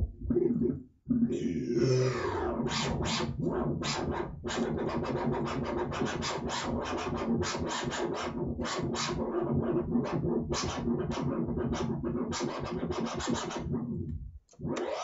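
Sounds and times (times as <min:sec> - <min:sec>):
vinyl record scratching: 0:00.0 - 0:15.0.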